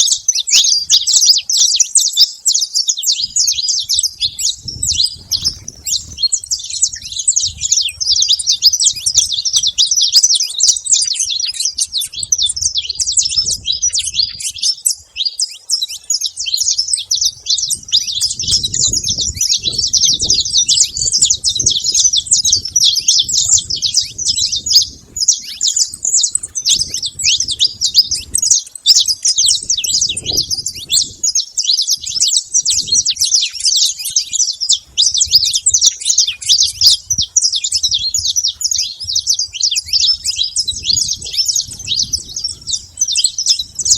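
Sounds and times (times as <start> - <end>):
finches chirping: 0.0 - 43.9.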